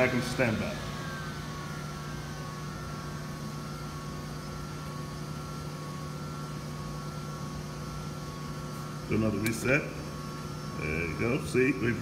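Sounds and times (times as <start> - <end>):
blower whine winding down: 0.0 - 12.0
water heater hum: 0.0 - 12.0.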